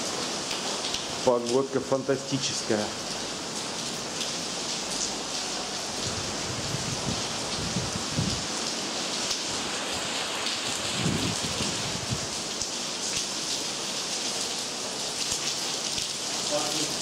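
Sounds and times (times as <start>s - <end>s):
rain on hard surfaces: 0.0s - 17.0s.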